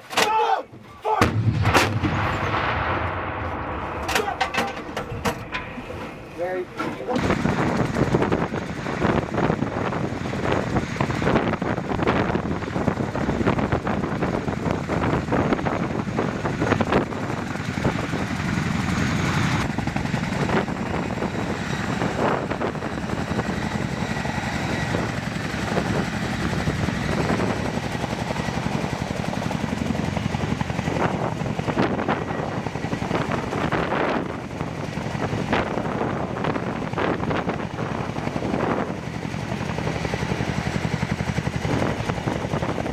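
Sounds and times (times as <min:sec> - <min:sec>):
turbines whining: 0:01.0 - 0:42.9
helicopter rotors beating: 0:01.1 - 0:42.9.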